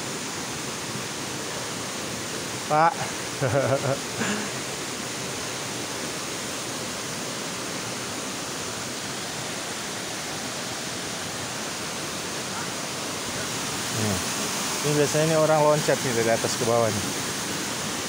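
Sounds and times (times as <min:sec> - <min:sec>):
stream flowing over rocks: 0:00.0 - 0:18.0
waterfall roaring: 0:00.0 - 0:18.0.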